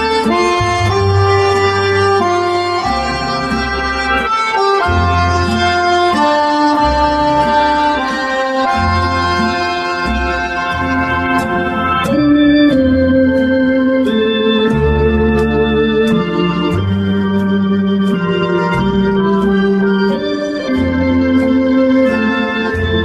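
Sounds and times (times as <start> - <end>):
bass line: 0.0 - 23.0
organ-like keyboard chords: 0.0 - 23.0.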